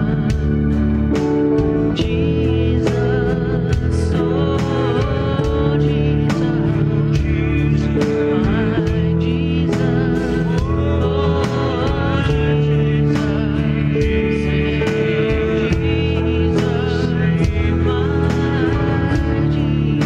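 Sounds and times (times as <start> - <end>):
person singing: 0.0 - 20.0
sustained instrumental chords: 0.0 - 20.0
steady beat: 0.2 - 20.0.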